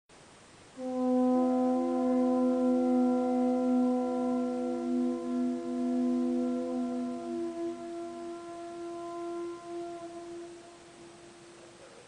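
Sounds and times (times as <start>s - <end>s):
conch shell trumpets blasting: 0.8s - 11.6s.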